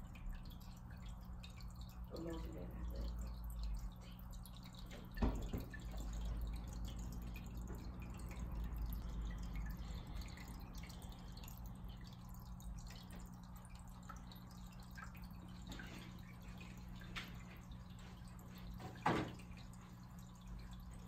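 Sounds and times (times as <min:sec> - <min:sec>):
steady low hum: 0:00.0 - 0:18.8
water dripping and trickling: 0:00.0 - 0:21.0.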